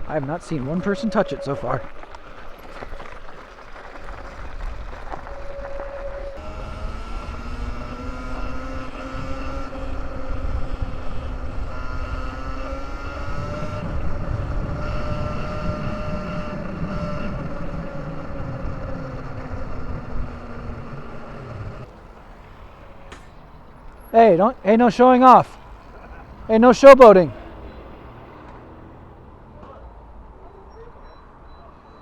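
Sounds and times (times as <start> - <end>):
low wind rumble: 0.0 - 28.8.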